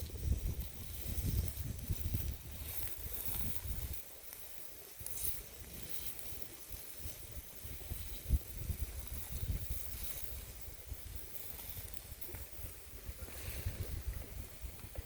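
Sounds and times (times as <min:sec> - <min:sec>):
wind buffeting microphone: 0:00.0 - 0:04.0, 0:06.8 - 0:15.0
steady outdoor hiss: 0:00.0 - 0:15.0.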